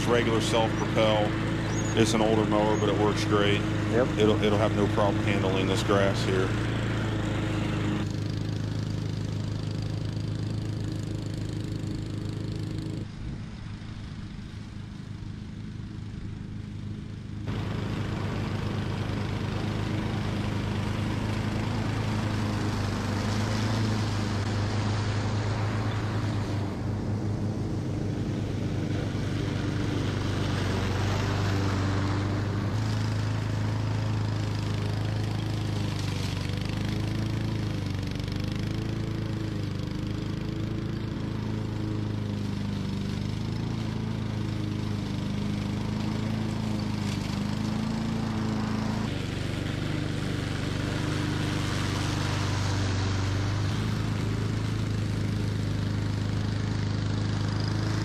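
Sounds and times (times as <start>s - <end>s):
lawn mower engine cutting grass: 0.0s - 58.0s.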